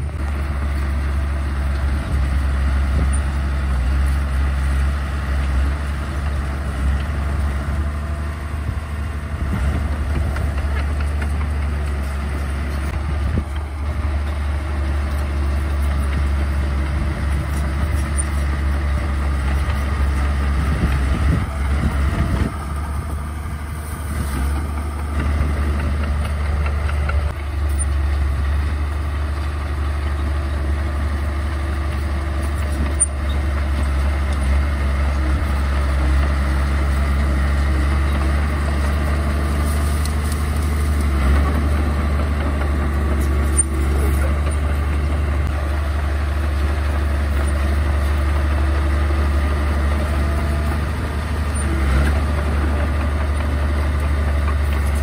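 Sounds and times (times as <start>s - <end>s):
bulldozer diesel engine humming: 0.0s - 55.0s.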